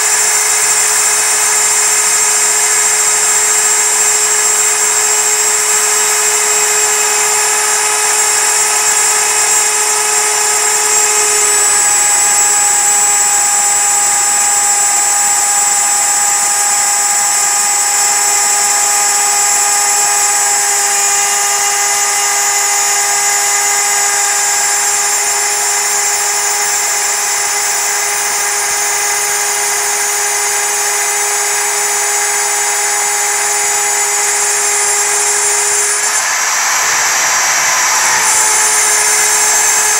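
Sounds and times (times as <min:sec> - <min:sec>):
router spindle machining whine: 0:00.0 - 0:39.9.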